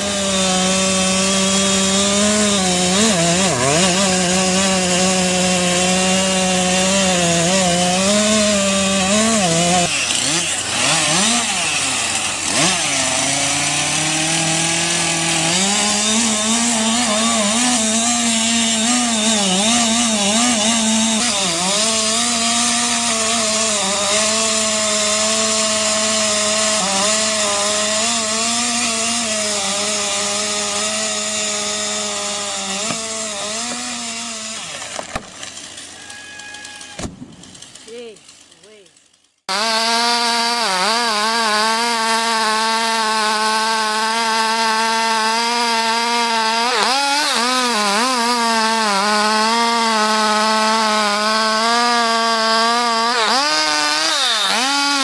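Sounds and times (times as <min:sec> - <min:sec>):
chainsaws cutting tree trunks: 0:00.0 - 0:55.0.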